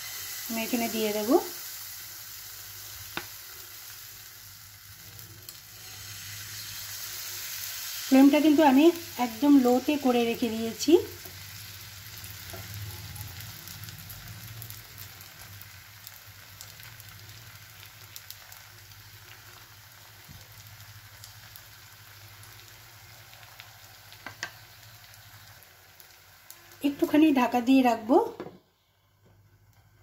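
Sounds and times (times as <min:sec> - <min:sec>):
batter sizzling in oil: 0:00.0 - 0:28.3.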